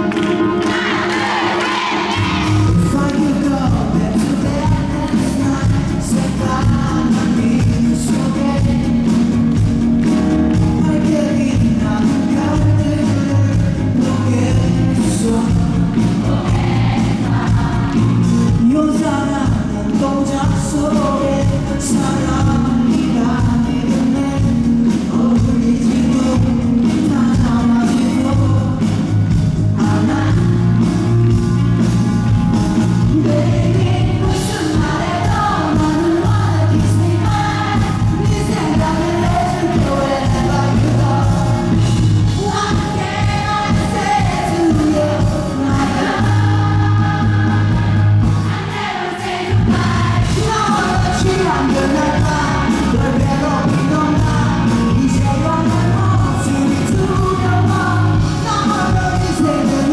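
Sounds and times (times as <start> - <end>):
live rock band: 0.0 - 59.9
man singing: 2.5 - 16.4, 17.5 - 31.4, 32.8 - 47.4, 49.7 - 59.9.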